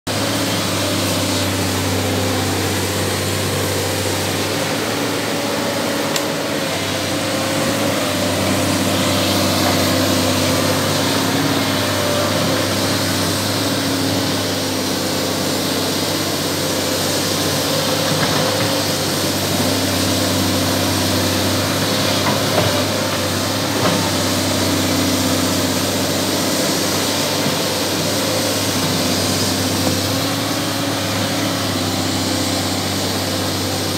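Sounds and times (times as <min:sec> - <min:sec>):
excavator engine humming: 0:00.1 - 0:33.9.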